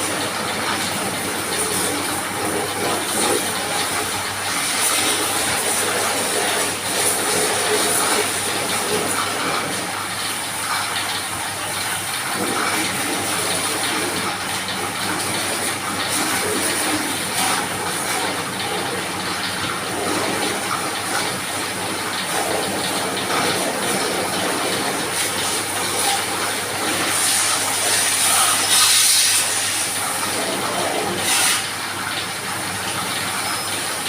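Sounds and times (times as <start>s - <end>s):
water spraying: 0.0s - 34.0s.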